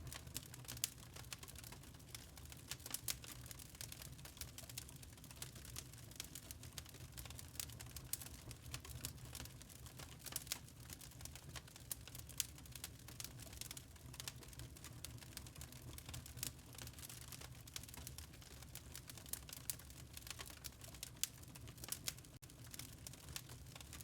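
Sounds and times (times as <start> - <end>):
log fire crackling: 0.0 - 24.0.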